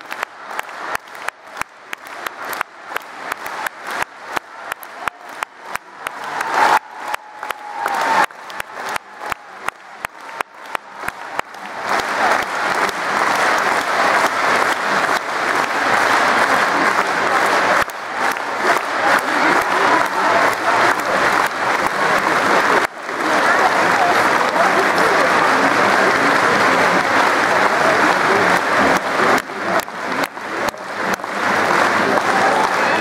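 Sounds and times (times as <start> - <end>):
audience clapping in time: 0.0 - 33.0
dense continuous applause: 0.0 - 33.0.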